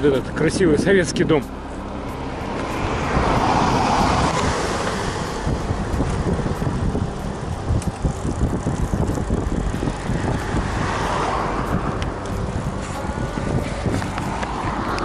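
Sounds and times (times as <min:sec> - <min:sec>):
tyre and street traffic noise: 0:00.0 - 0:15.0
wind rumbling on microphone: 0:01.8 - 0:15.0.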